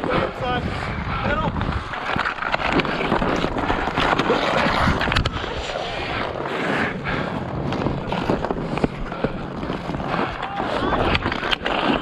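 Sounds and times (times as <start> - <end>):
skates scraping across ice: 0.0 - 12.0
wind on microphone: 0.0 - 12.0.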